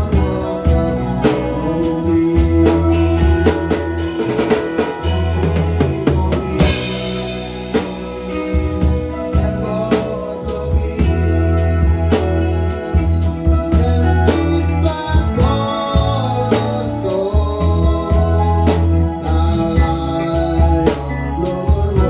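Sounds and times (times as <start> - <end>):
band playing: 0.0 - 22.0.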